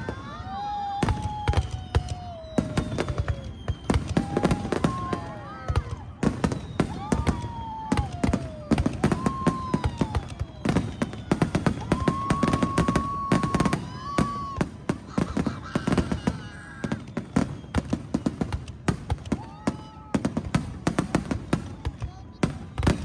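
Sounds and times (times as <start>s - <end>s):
fireworks bangs and crackles: 0.0s - 23.0s
fireworks whistling: 0.0s - 23.0s.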